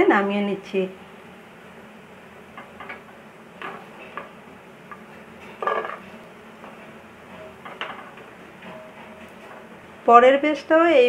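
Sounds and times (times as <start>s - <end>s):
oil sizzling: 1.1s - 10.2s.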